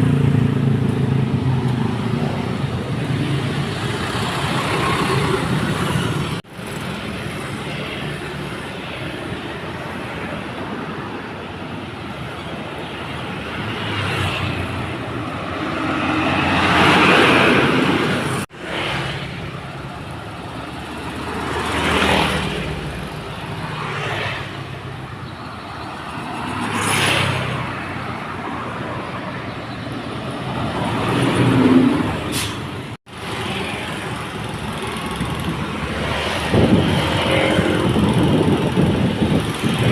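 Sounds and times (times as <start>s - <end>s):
traffic noise: 0.0s - 39.9s.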